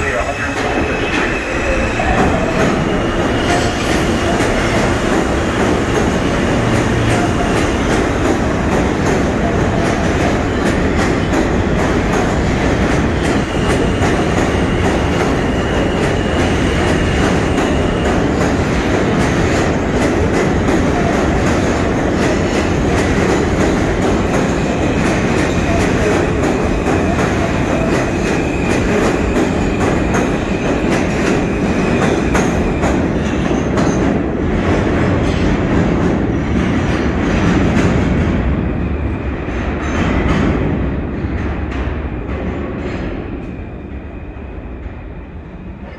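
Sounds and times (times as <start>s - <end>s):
subway train rumbling past: 0.0s - 45.9s.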